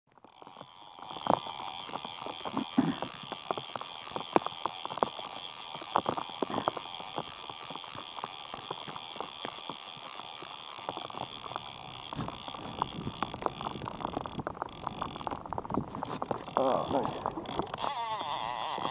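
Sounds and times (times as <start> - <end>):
rain hissing on a river: 0.8 - 18.9
raindrops tapping: 1.0 - 17.8.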